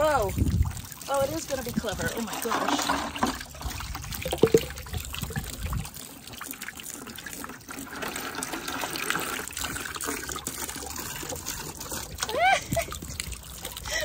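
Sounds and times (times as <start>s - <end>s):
water splashing into bucket: 0.0s - 14.0s.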